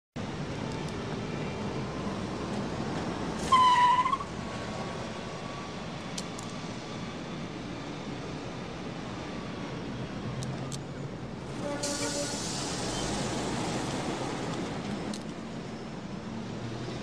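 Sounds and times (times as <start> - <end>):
city traffic noise: 0.2 - 17.0.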